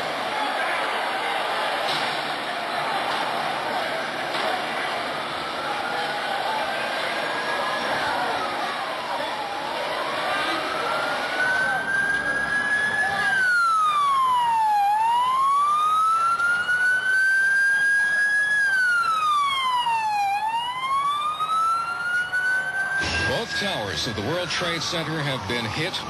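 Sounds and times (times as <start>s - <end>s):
street noise: 0.0s - 26.0s
emergency siren wailing: 3.6s - 26.0s.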